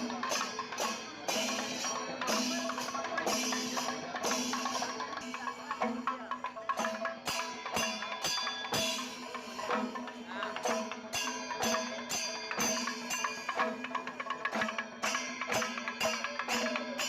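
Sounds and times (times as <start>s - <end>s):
instrumental music with percussion beat: 0.0s - 17.0s.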